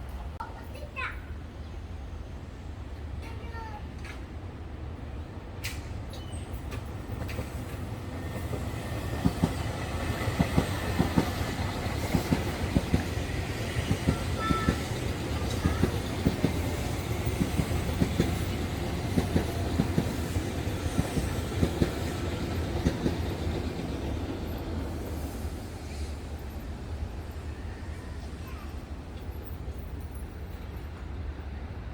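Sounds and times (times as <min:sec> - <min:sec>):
electric train rumble: 0:04.4 - 0:31.9.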